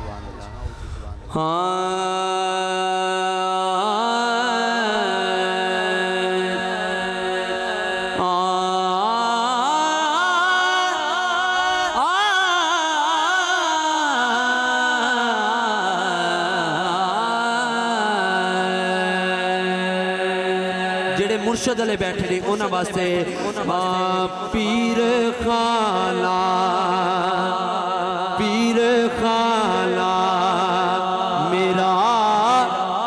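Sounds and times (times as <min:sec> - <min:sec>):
man singing into a microphone: 0:01.3 - 0:33.0.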